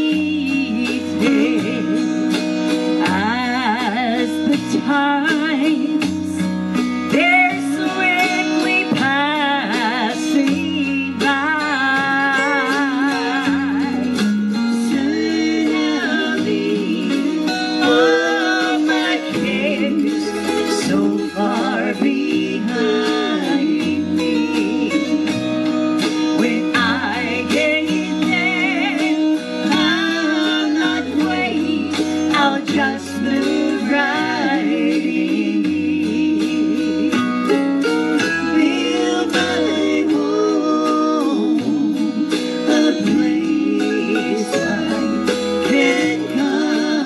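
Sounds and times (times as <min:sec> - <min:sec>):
acoustic guitar country music: 0:00.0 - 0:47.0.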